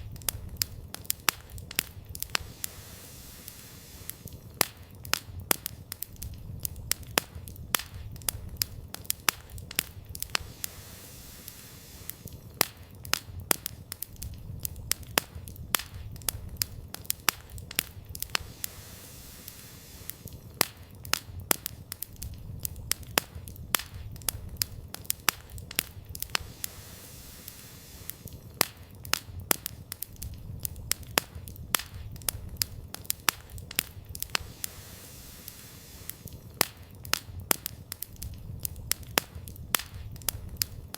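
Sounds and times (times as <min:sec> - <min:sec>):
low rush of flames: 0:00.0 - 0:40.9
wood crackling and popping: 0:00.0 - 0:40.9.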